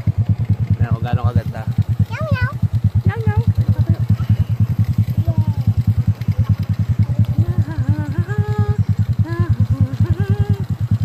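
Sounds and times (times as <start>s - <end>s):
motor scooter engine idling: 0.0s - 11.0s.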